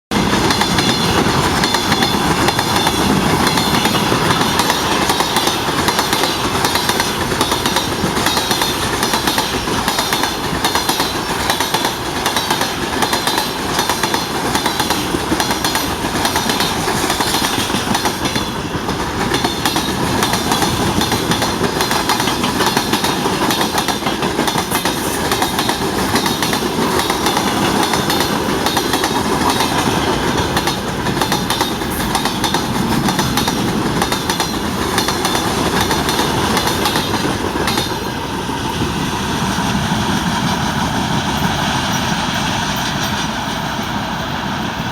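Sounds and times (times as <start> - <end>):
train wheels clacking over rail joints: 0.1 - 44.2.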